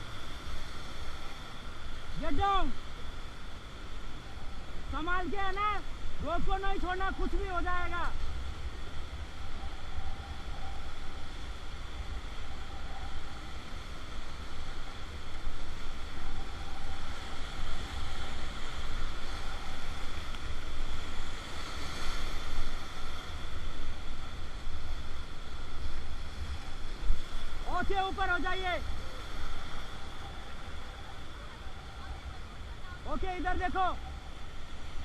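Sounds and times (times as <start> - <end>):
whitewater rushing: 0.0 - 35.0.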